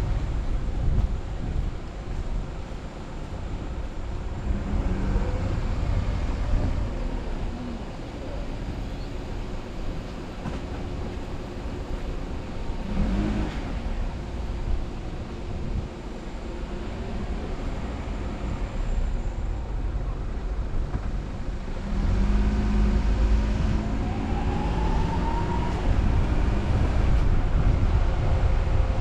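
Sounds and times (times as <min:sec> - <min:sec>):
road rumble: 0:00.0 - 0:29.0
car engine: 0:00.1 - 0:29.0.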